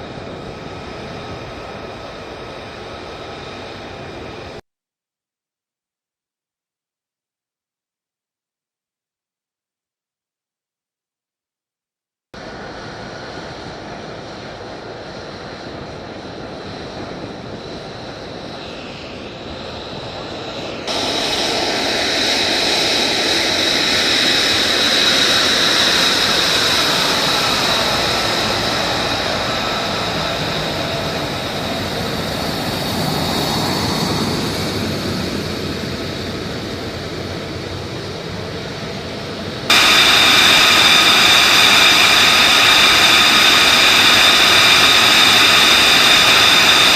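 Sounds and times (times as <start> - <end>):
jet engines with high whine: 0.0 - 4.6, 12.4 - 46.9.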